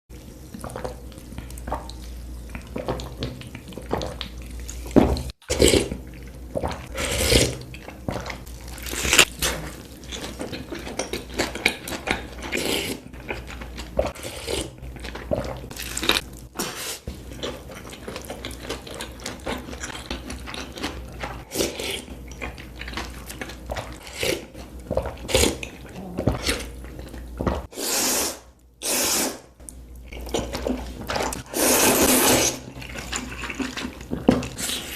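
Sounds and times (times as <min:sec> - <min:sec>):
wet chewing and slurping: 0:00.5 - 0:34.9.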